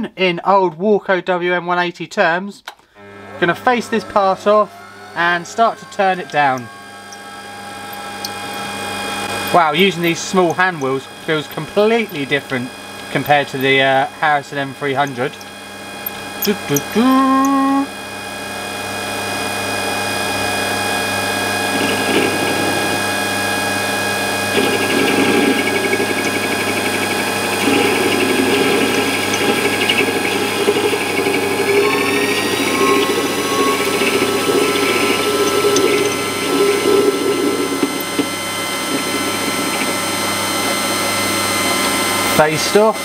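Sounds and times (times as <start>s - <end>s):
lathe motor whine: 2.9s - 43.0s
lathe cutting steel: 3.0s - 43.0s.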